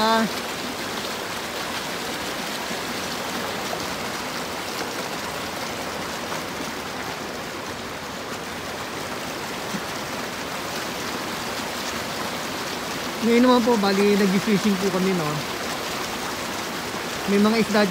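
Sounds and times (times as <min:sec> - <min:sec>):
stream flowing over rocks: 0:00.0 - 0:17.9.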